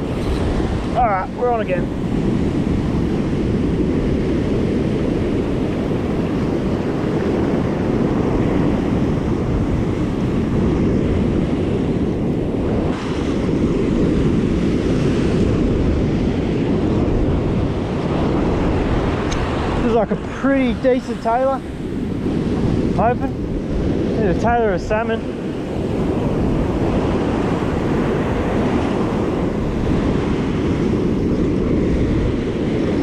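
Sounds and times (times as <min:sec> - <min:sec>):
ocean surf breaking on beach: 0:00.0 - 0:33.0
wind rumbling on microphone: 0:00.0 - 0:33.0.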